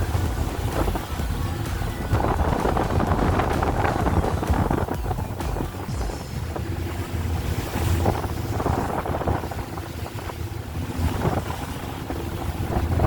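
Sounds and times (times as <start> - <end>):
boat engine rumble: 0.0 - 13.0
rushing water and waves: 0.0 - 13.0
wind buffeting microphone: 0.0 - 13.0.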